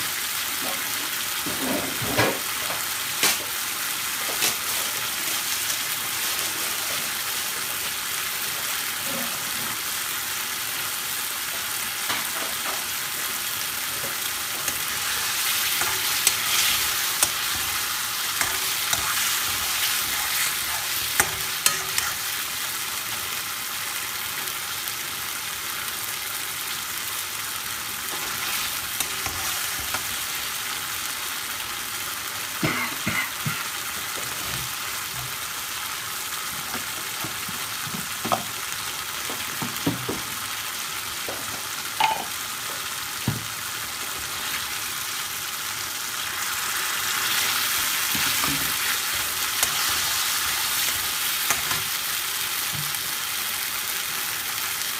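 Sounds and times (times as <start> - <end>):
curry sizzling in a metal pan: 0.0 - 54.9.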